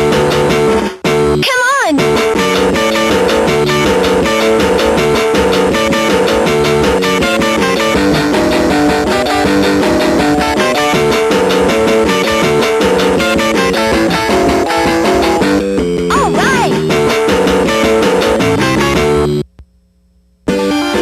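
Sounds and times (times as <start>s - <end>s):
rock song from toy boombox: 2.0s - 19.0s.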